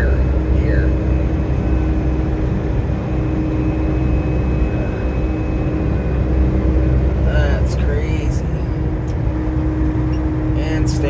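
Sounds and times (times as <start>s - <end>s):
faint steady hum: 0.0s - 11.0s
vehicle road and engine rumble: 0.0s - 11.0s.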